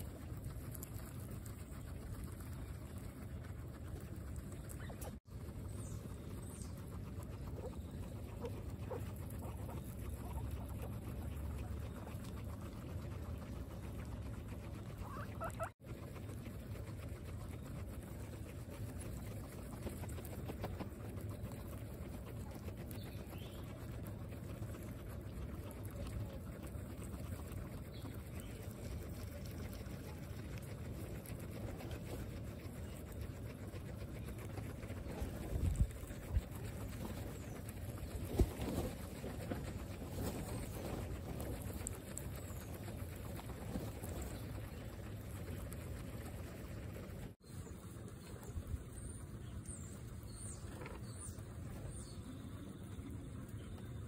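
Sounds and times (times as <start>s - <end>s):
guinea pigs munching grass: 0.0s - 54.0s.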